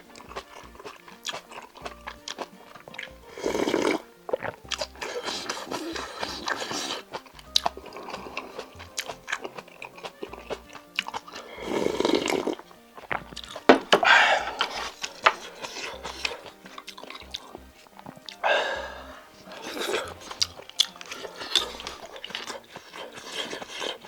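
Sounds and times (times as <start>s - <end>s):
loud eating noise: 0.0s - 24.0s
wet chewing with mouth clicks: 0.0s - 24.0s.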